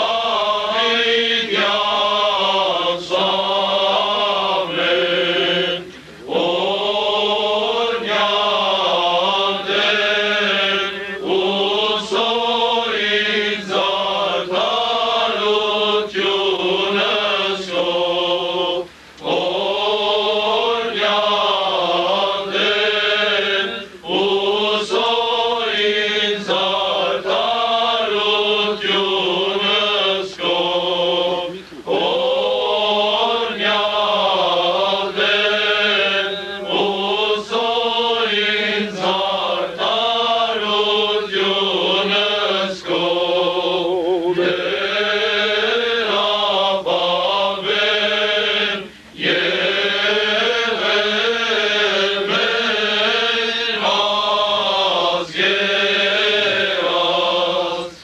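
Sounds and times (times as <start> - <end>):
male choir chanting: 0.0 - 58.0.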